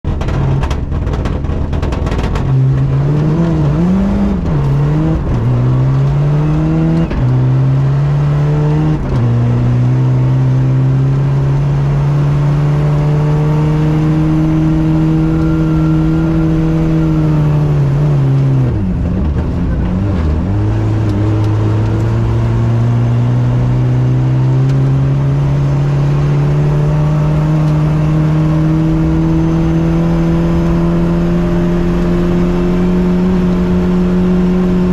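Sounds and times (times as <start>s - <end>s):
car engine accelerating through gears: 0.1s - 34.9s.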